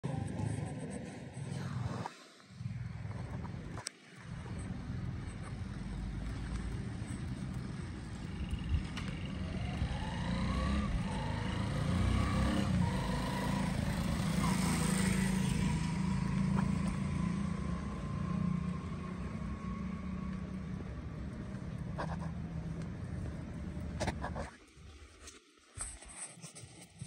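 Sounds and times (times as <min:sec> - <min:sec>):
motor vehicle rumble: 0:00.0 - 0:24.5.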